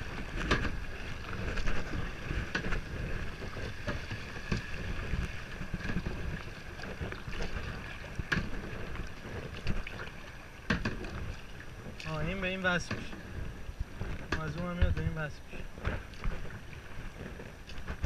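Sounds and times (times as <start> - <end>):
paddle splashing water: 0.0 - 18.0
wind rumble on microphone: 0.0 - 18.0.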